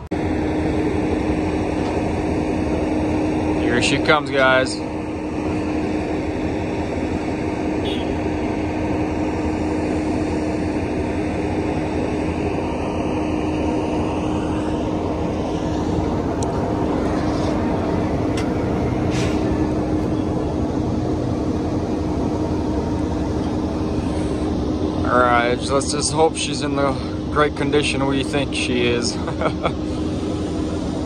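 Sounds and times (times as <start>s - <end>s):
diesel vehicles droning: 0.0s - 31.0s
wheel loader working: 0.0s - 31.0s.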